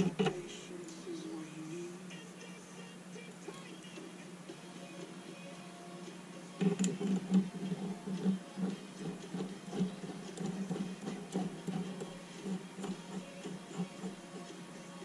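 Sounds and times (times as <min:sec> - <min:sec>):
radio music: 0:00.0 - 0:15.0.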